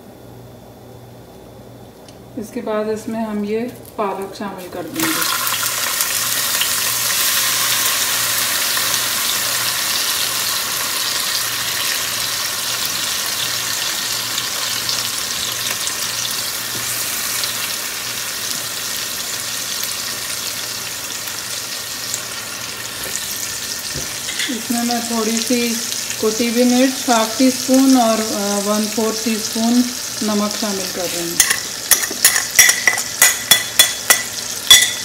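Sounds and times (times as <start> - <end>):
spinach sizzling in oil: 4.6 - 35.0.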